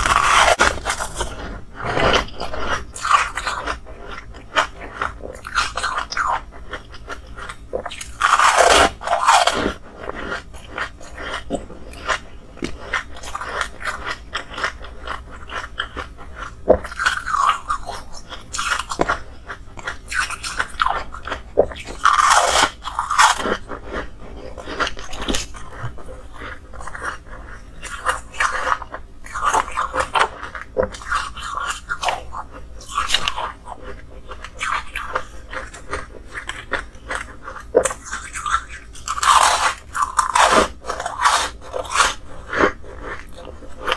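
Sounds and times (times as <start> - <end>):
crunching chews: 0.0 - 43.9.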